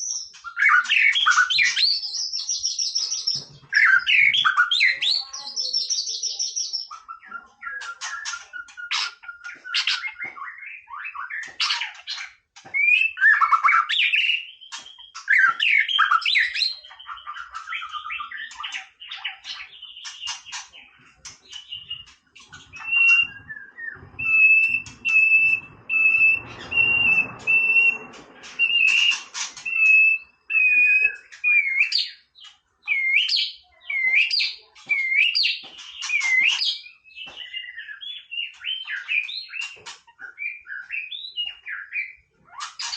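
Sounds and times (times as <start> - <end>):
bird singing varied whistled phrases: 0.0 - 20.6, 21.4 - 42.9.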